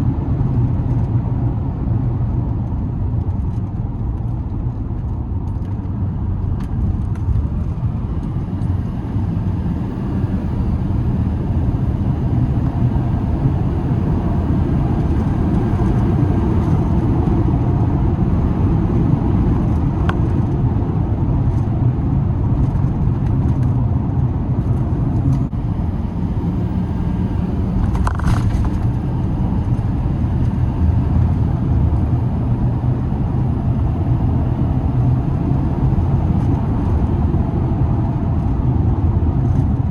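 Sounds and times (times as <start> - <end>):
pickup truck engine rumbling: 4.5 - 39.9.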